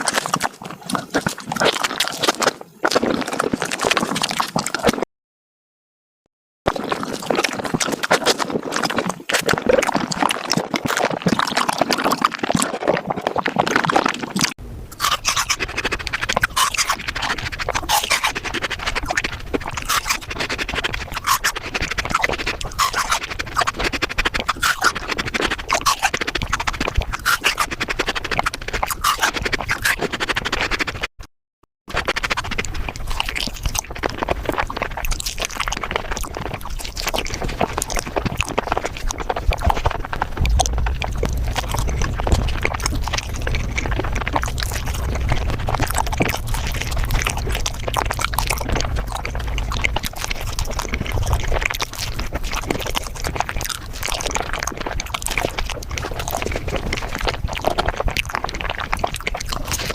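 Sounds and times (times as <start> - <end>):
sped-up chewing and mouth clicks: 0.0 - 5.0, 6.7 - 31.1, 31.9 - 59.9.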